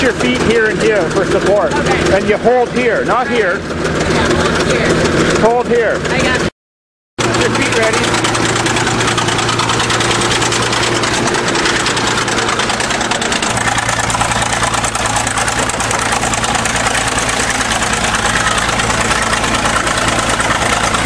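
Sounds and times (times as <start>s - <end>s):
diesel engine idling: 0.0s - 6.5s, 7.2s - 21.0s.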